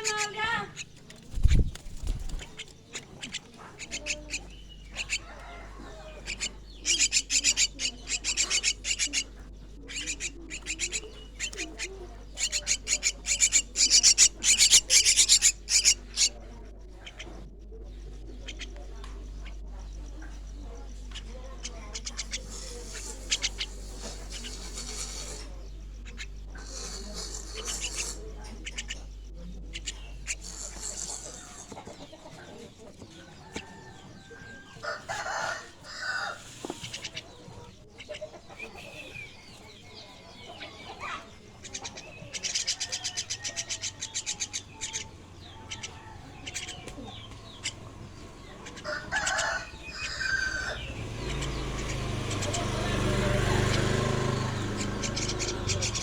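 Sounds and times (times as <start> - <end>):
young starlings chattering: 0.0 - 56.0.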